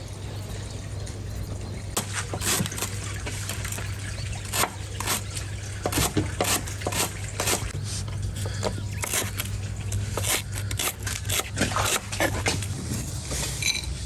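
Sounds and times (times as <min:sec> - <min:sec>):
water splashing and trickling: 0:00.0 - 0:13.3.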